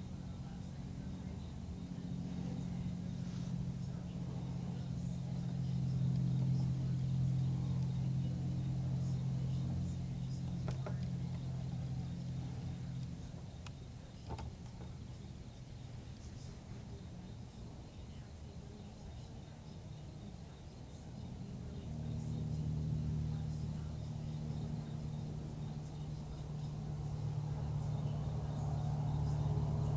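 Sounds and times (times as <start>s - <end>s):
low engine hum: 0.0s - 29.9s.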